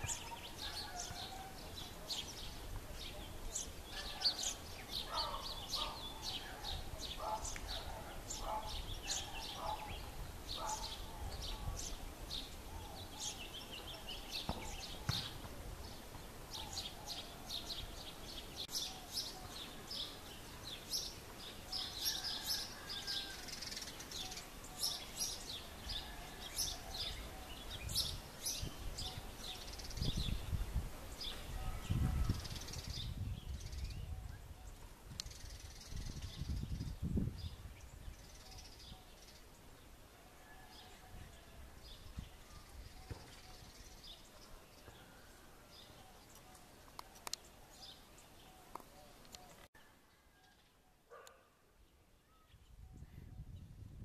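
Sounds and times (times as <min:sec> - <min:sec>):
birds chirping high: 0:00.0 - 0:53.7.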